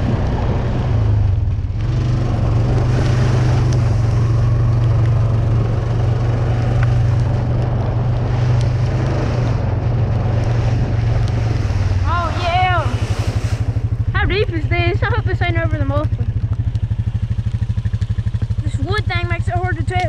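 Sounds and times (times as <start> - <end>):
off-road vehicle engine droning: 0.0 - 20.0.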